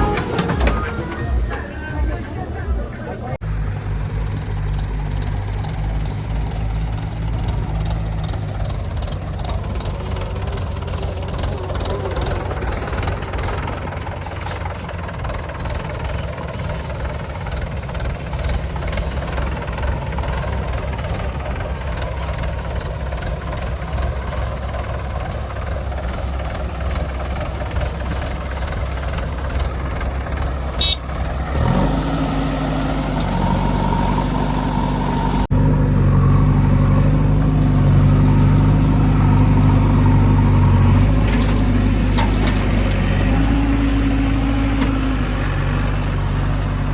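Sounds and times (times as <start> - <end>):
deep pitched engine hum: 0.0 - 46.9
heavy diesel engines running: 0.0 - 46.9.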